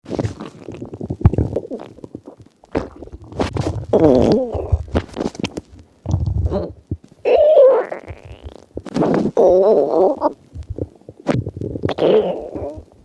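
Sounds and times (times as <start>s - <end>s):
stomach growling and gurgling: 0.0s - 13.0s.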